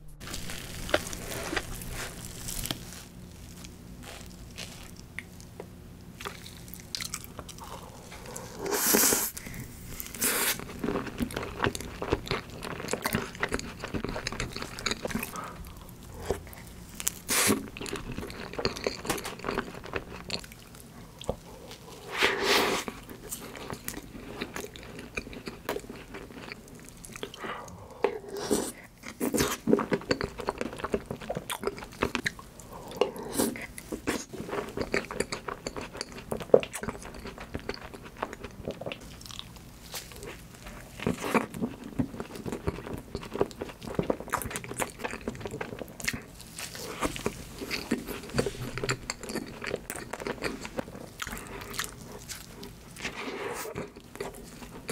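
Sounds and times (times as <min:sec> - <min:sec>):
person chewing crunchy food: 0:00.1 - 0:54.9.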